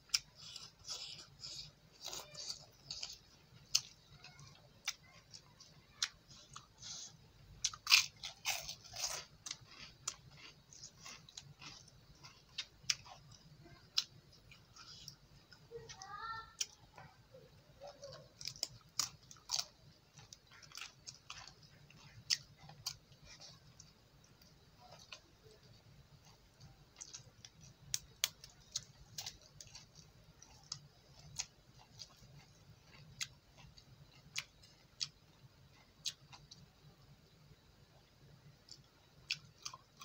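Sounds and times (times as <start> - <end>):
person chewing with wet smacks: 0.0 - 16.0, 17.8 - 36.7, 38.6 - 40.0.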